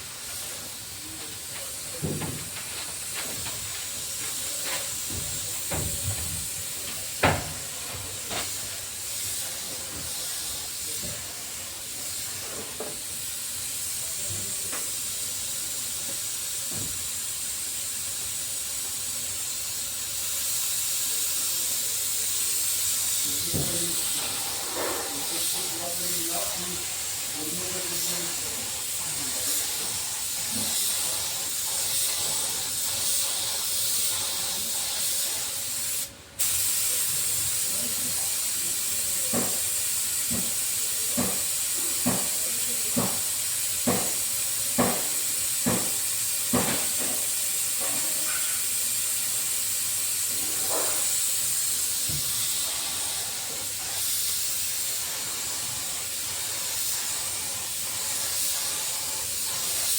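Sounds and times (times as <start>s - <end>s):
spray gun hissing: 0.0s - 59.9s.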